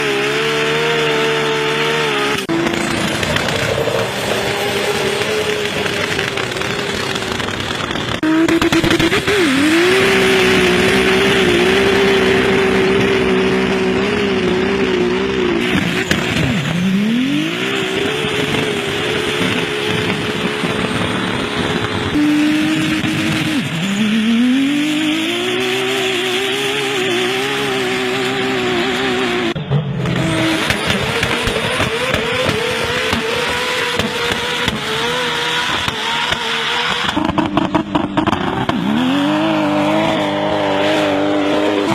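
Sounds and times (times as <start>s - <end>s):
engine revving hard: 0.0s - 41.9s.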